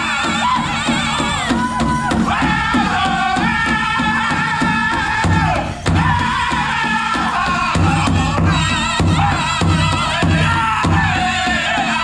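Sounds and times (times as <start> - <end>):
group singing in high voices: 0.0 - 12.0
steady beat on big drum: 0.0 - 12.0.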